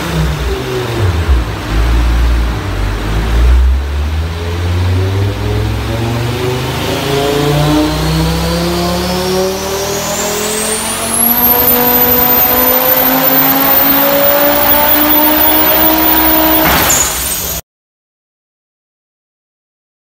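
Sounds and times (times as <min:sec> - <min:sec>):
engine revving under load: 0:00.0 - 0:17.6
high turbo whine: 0:00.0 - 0:17.6.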